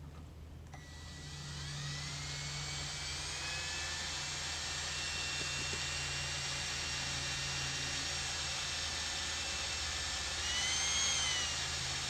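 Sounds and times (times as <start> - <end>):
cordless drill whining: 0.8 - 12.0.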